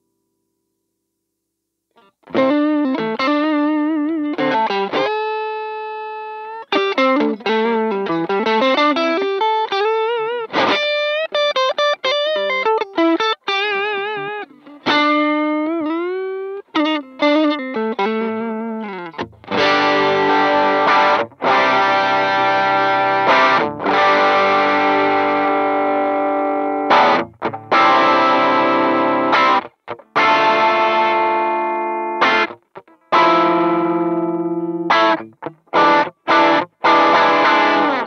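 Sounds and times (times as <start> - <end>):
distorted guitar chords: 2.0 - 38.0
overdriven electric guitar lead: 2.0 - 38.0.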